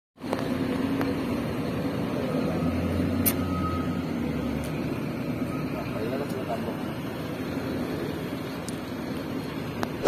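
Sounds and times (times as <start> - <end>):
diesel truck engine droning: 0.2 - 10.0.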